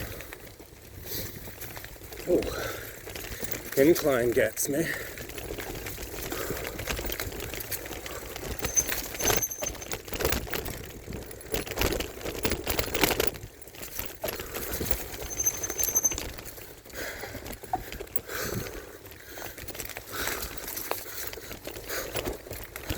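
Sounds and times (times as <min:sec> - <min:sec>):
bike frame rattling and clicking: 0:00.0 - 0:22.9
bike tires crunching on dirt: 0:00.0 - 0:22.9.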